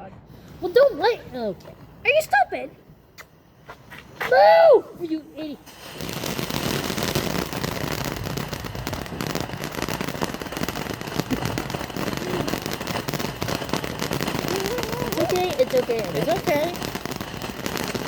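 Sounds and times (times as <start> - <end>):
firework fountain crackling: 0.0 - 18.0.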